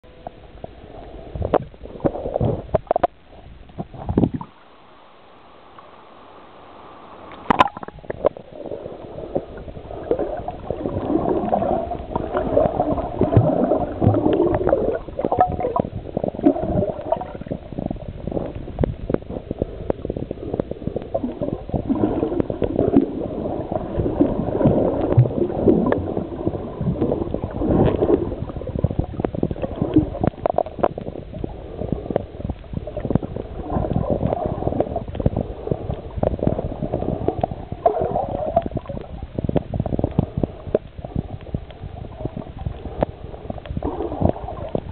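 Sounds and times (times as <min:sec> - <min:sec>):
underwater gurgling and rumbling: 0:00.0 - 0:44.9.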